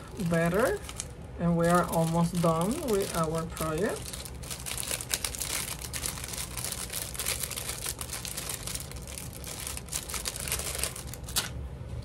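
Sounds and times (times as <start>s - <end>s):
paper rustling and crinkling: 0.0s - 11.6s.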